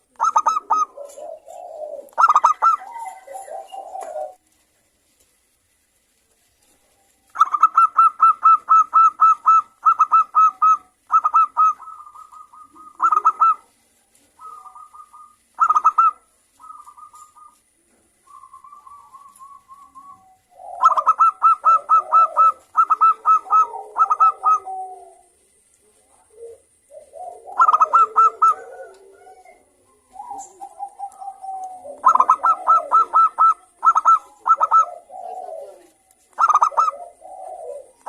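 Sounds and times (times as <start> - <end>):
dove cooing: 0.0 - 4.6, 6.8 - 38.0.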